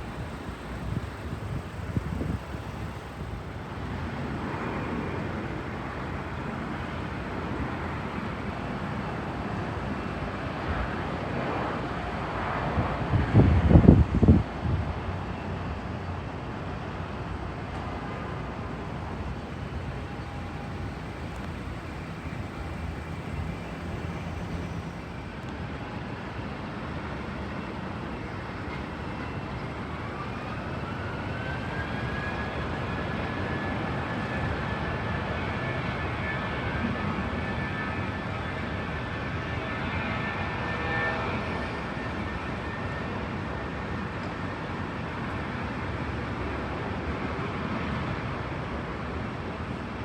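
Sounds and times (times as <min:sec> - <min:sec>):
jet engine whine: 0:00.0 - 0:50.0
jet engines roaring: 0:00.0 - 0:50.0.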